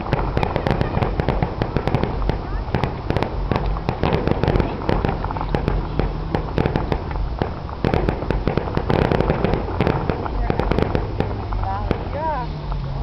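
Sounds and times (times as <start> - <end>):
fireworks popping and banging: 0.0 - 13.0
low rumble: 0.0 - 13.0.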